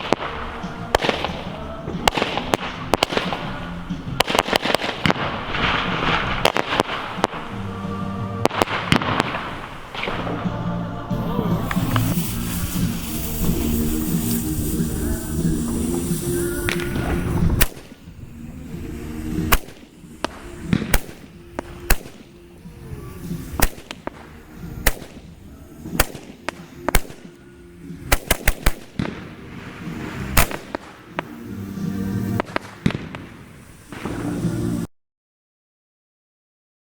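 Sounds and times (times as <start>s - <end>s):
background music: 0.0s - 34.9s
fireworks bangs: 0.0s - 34.9s.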